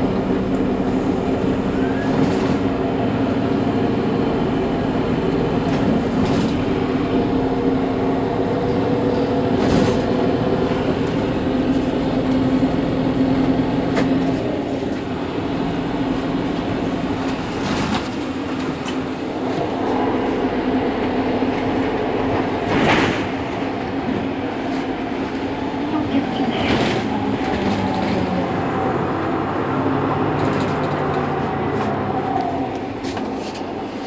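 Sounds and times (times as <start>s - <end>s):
bus engine idling: 0.0s - 34.0s.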